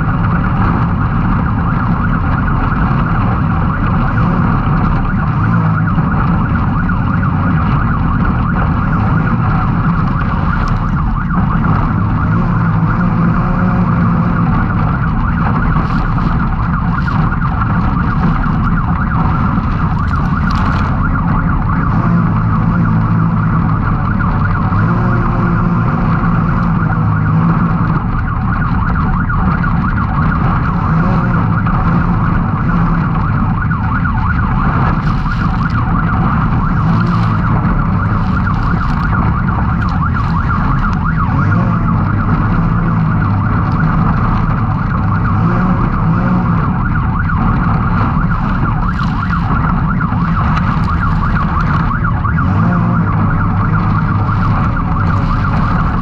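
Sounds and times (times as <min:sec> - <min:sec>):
engine running hard: 0:00.0 - 0:56.0.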